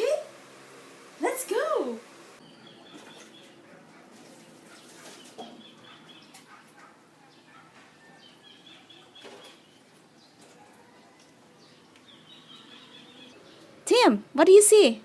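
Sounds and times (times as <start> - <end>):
faint birds chirping: 2.4 - 14.8.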